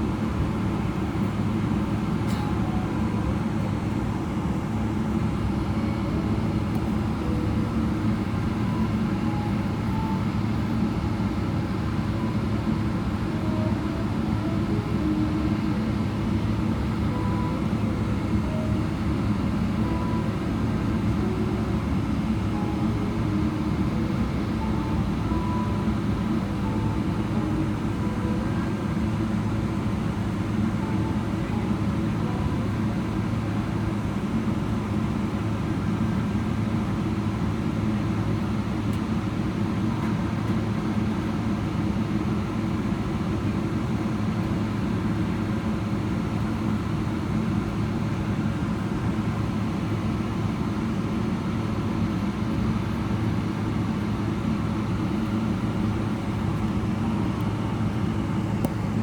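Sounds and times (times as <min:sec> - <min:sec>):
cabin air system: 0:00.0 - 0:59.0
jet engines idling: 0:00.0 - 0:59.0.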